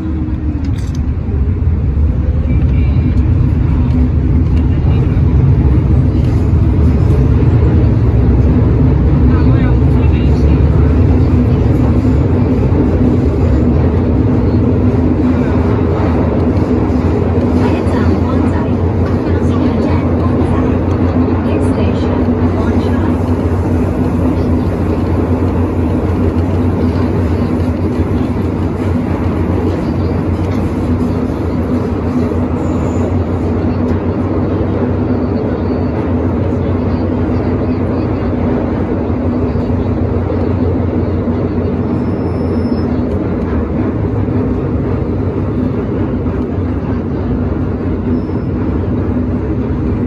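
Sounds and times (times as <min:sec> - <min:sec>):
constant low hum: 0:00.0 - 0:50.0
train wheels rumbling on rails: 0:00.0 - 0:50.0.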